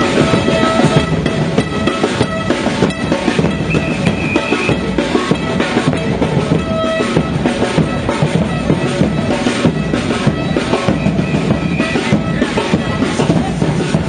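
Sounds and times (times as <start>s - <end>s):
loud music with drum beat: 0.0s - 14.0s.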